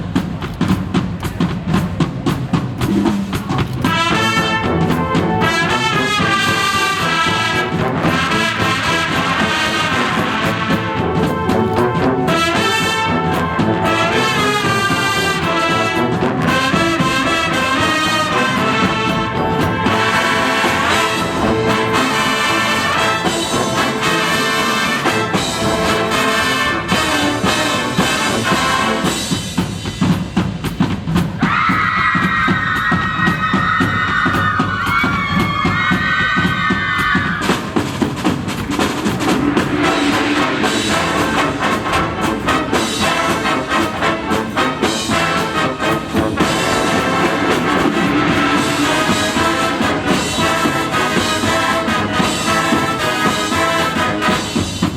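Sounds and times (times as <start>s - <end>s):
drums: 0.0s - 54.9s
marching band playing: 0.0s - 54.9s.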